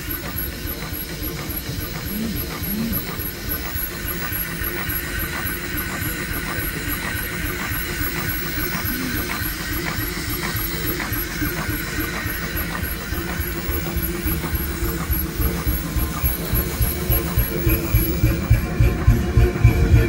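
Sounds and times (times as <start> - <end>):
steam traction engine running: 0.0 - 20.0.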